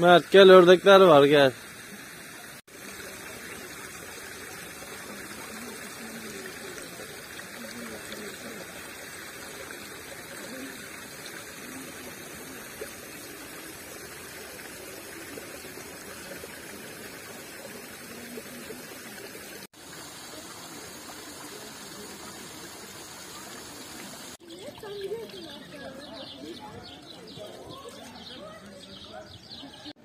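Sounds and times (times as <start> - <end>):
running water rushing: 0.0 - 29.9.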